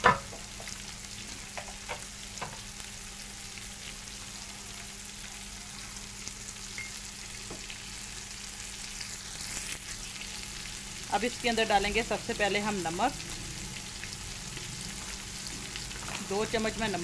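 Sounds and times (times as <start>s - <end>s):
onions and tomatoes sizzling: 0.0s - 17.0s.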